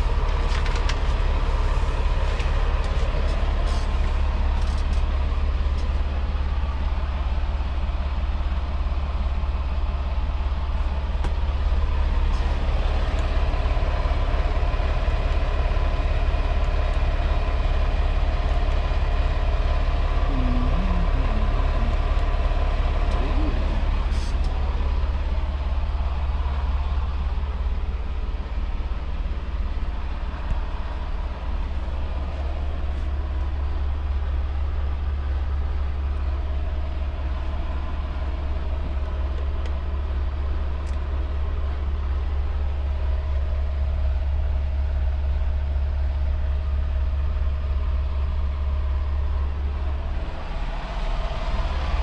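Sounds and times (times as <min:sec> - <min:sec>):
diesel truck engine idling: 0:00.0 - 0:52.0.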